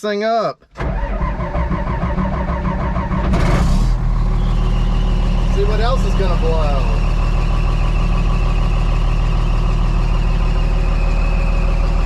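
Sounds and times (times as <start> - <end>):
bulldozer diesel engine running: 0.8 - 12.0.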